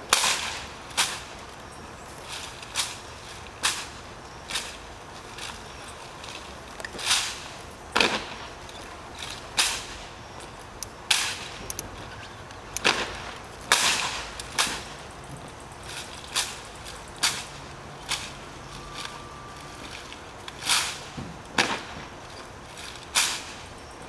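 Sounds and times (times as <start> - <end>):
rifles and heels on pavement: 0.0 - 24.0.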